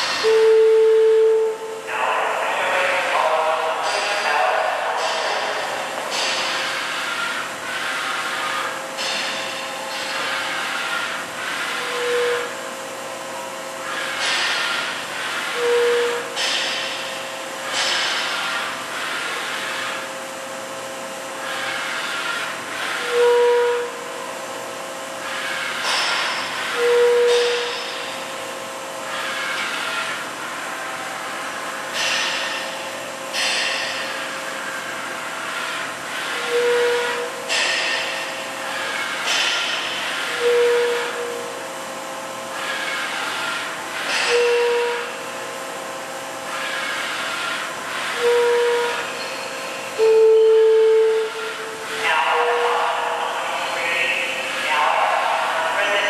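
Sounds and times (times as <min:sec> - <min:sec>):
machine humming: 0:00.0 - 0:56.0.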